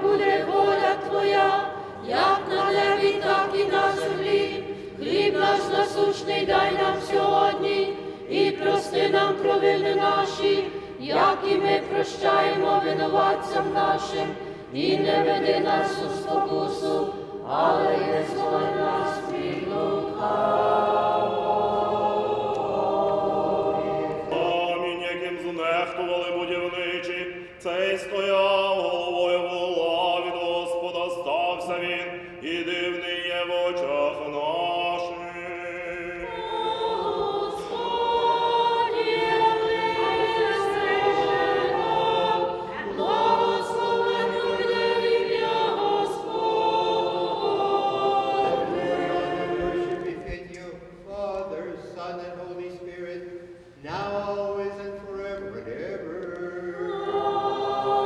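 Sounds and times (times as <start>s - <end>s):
choir singing unaccompanied chant: 0.0s - 58.0s.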